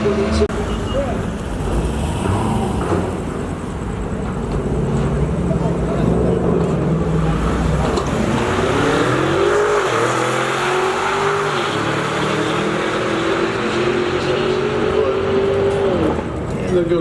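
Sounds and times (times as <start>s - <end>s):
drag racing car accelerating: 0.0s - 16.6s.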